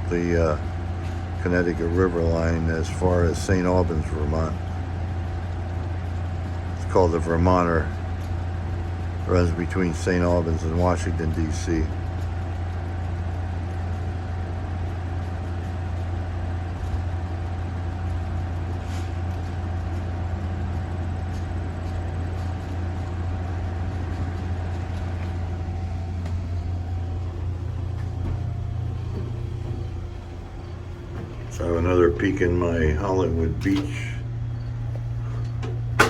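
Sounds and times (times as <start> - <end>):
train car hum and rumble: 0.0 - 36.0.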